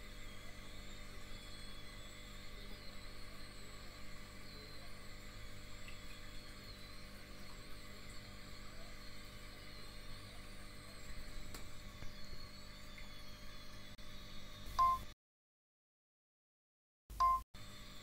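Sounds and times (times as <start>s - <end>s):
aquarium pumps humming: 0.0s - 15.1s, 17.2s - 18.0s.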